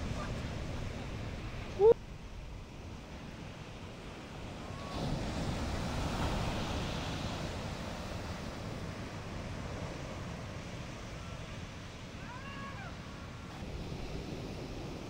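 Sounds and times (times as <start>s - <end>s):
surf breaking on shore: 2.8s - 15.0s.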